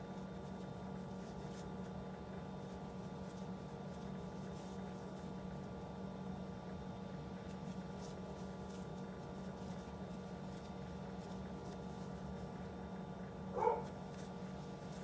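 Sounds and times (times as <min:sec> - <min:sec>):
yarn rustling on crochet hook: 0:00.0 - 0:06.3, 0:07.4 - 0:15.0
low room hum: 0:00.0 - 0:15.0.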